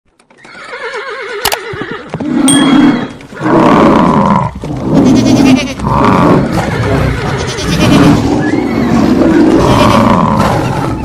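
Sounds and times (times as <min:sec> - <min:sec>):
horse whinnying: 0:00.4 - 0:11.0
rough animal roars and growls: 0:02.1 - 0:11.0.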